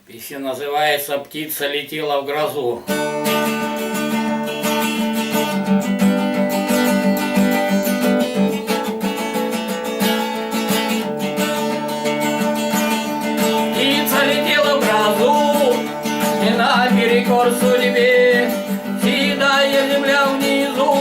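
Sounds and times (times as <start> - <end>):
acoustic guitar strumming chords: 2.8 - 21.0.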